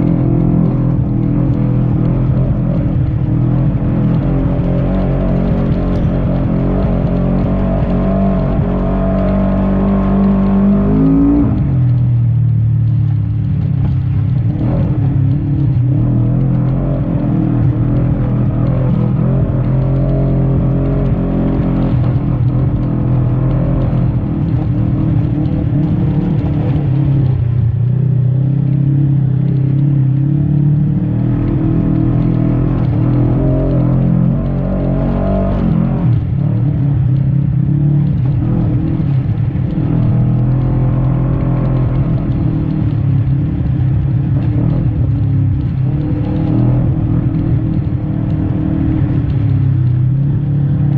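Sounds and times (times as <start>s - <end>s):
utility vehicle engine revving: 0.0s - 50.9s.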